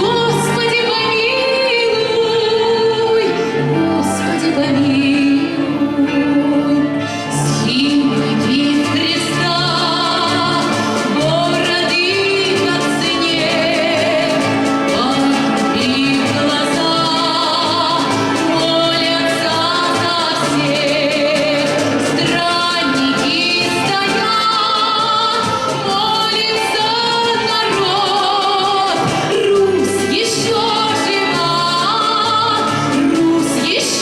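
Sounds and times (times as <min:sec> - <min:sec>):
orchestral music: 0:00.0 - 0:34.0
woman singing: 0:00.0 - 0:34.0.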